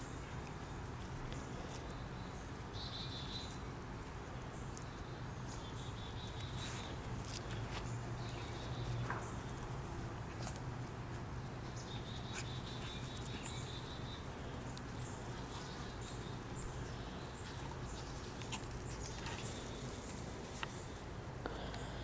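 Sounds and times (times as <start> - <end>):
birds chirping in buzzy trills: 0.0 - 22.0.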